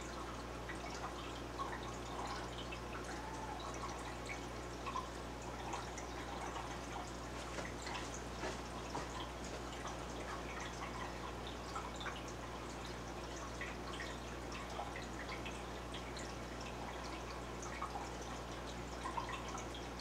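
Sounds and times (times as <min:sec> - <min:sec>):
steady low hum: 0:00.0 - 0:20.0
water dripping and trickling: 0:00.0 - 0:20.0.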